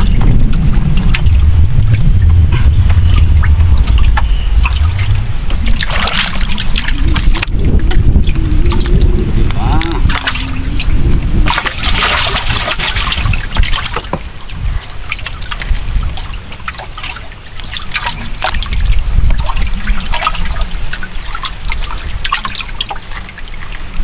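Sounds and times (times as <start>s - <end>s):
water splashing and trickling: 0.0s - 24.0s.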